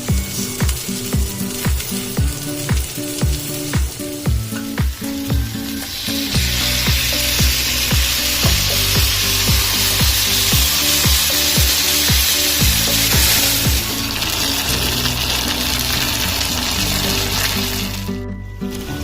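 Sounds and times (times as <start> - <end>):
food sizzling in a pan: 0.0 - 19.0
music with a steady beat: 0.0 - 19.0.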